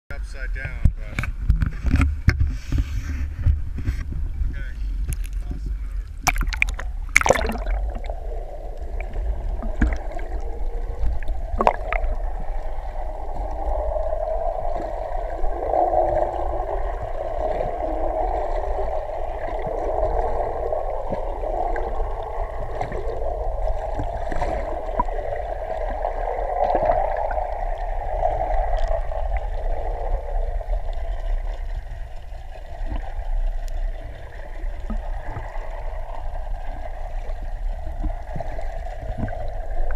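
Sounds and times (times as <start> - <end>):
muffled underwater gurgling: 0.2 - 39.9.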